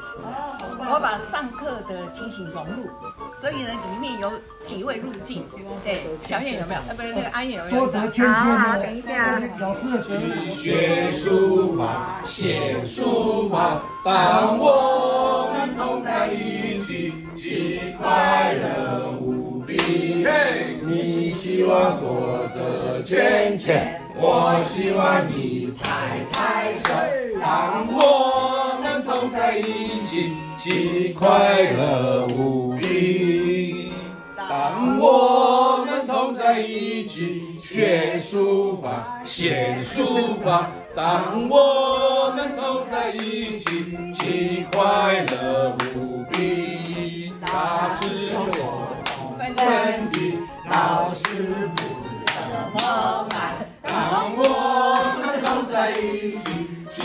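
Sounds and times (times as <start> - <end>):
group singing in unison: 0.0 - 1.3, 6.2 - 57.0.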